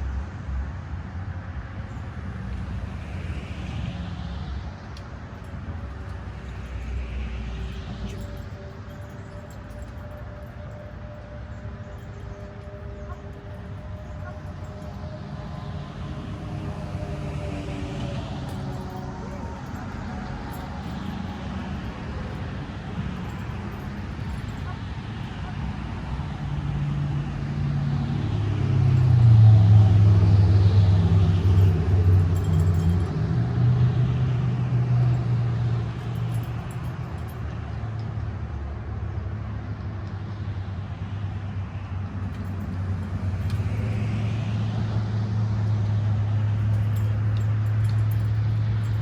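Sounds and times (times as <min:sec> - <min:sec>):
vehicle engine humming: 0:02.2 - 0:37.6, 0:41.0 - 0:49.0.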